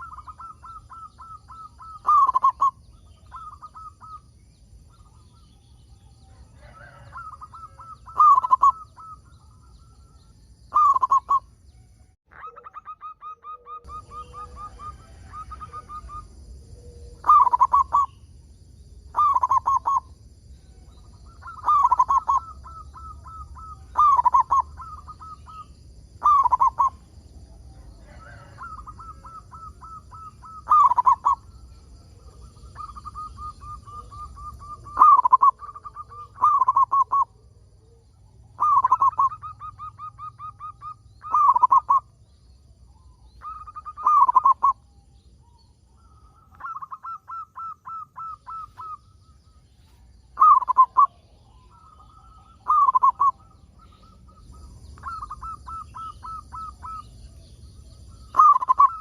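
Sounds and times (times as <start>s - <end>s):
dove cooing: 0.0s - 11.5s, 12.3s - 18.2s, 19.1s - 42.3s, 42.9s - 59.0s
faint high bird chirps: 0.0s - 59.0s.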